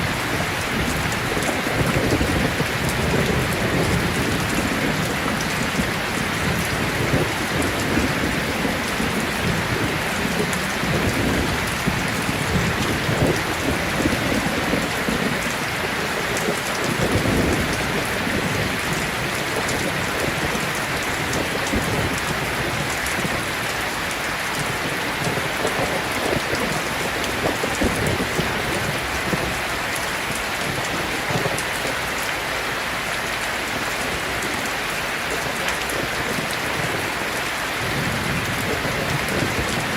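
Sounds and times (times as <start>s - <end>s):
low thunder rumbling: 0.0s - 32.0s, 35.3s - 39.9s
heavy rain falling: 0.0s - 39.9s.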